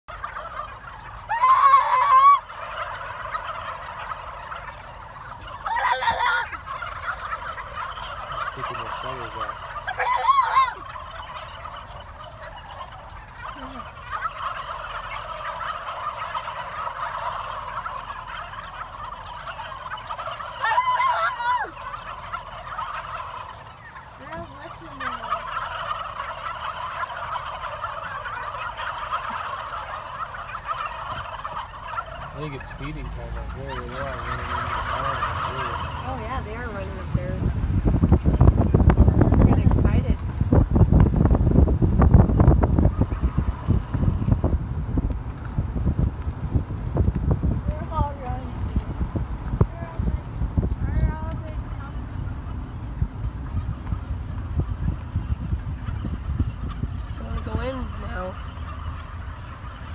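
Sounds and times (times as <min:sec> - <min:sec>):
turkeys chattering: 0:00.0 - 0:59.9
turkey gobbles: 0:00.1 - 0:59.9.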